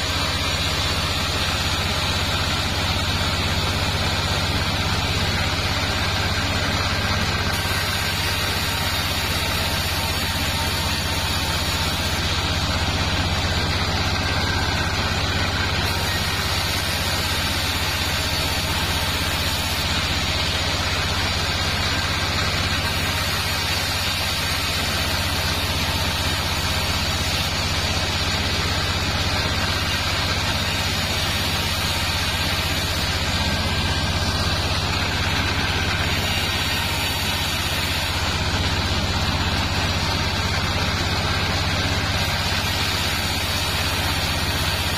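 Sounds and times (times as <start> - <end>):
bandsaw mill sawing wood: 0.0 - 44.9.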